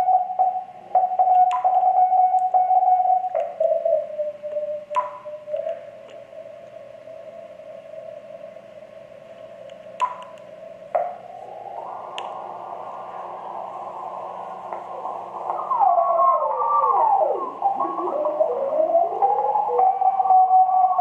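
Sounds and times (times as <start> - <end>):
morse signal tone: 0.0 - 9.2, 10.0 - 21.0
radio band hiss: 0.0 - 21.0.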